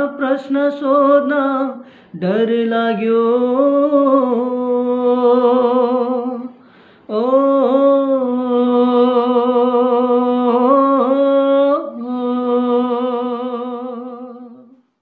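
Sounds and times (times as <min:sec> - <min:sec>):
man singing long note with vibrato: 0:00.0 - 0:14.8.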